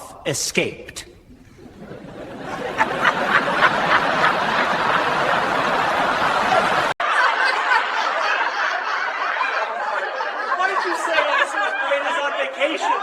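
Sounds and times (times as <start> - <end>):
crowd laughing: 1.5 - 13.0.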